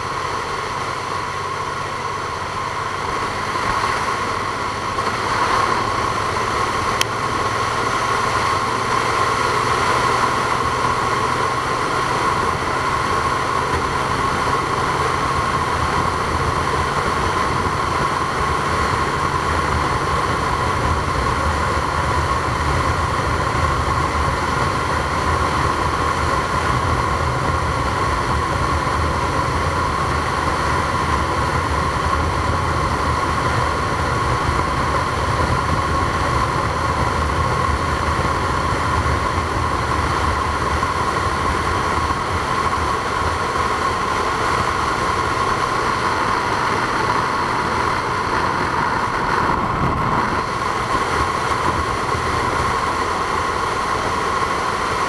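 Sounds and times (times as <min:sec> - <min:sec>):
high whine: 0:00.0 - 0:55.0
moving vehicle rumble: 0:00.0 - 0:55.0.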